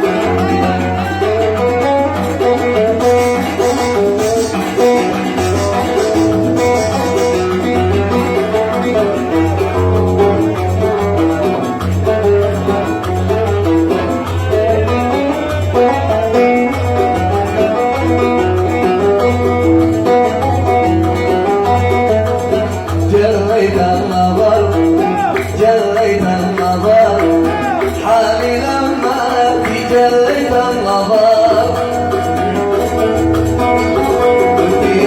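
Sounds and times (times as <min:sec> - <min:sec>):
oud playing fast melody: 0:00.0 - 0:35.0.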